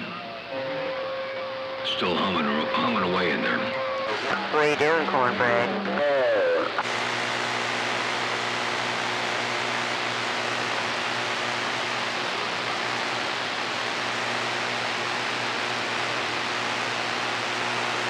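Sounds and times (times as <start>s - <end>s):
radio static: 1.9s - 18.0s.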